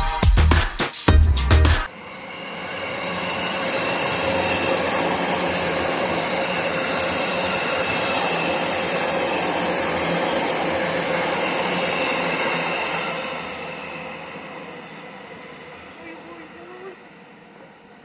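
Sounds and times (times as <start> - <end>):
train wheels rushing on rail: 1.9 - 18.0.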